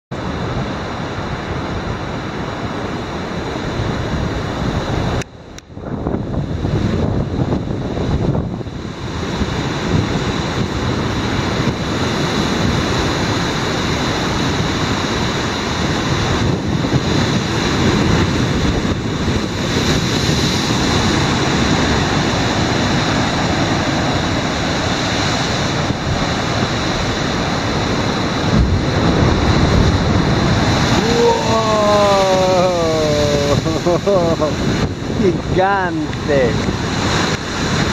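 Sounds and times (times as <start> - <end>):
ocean surf crashing on rock: 0.2 - 37.9
wind on microphone: 0.2 - 37.9.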